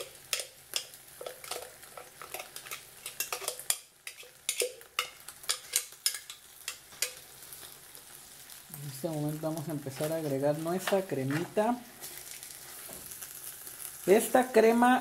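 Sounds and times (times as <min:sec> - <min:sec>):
meat frying in hot oil: 0:00.0 - 0:15.0.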